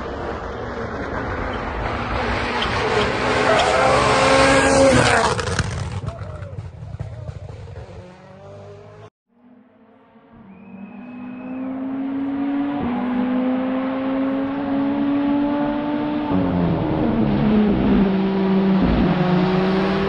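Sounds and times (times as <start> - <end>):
rally car approaching flat out: 0.0 - 20.0
rally car engine: 0.0 - 20.0.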